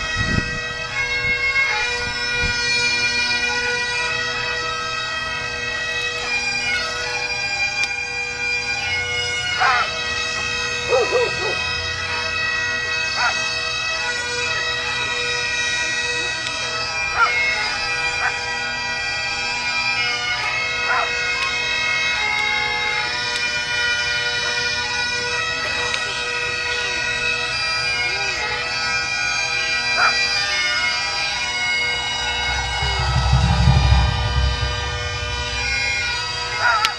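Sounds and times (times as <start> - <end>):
bagpipes playing a tune: 0.0 - 10.9, 11.7 - 30.9.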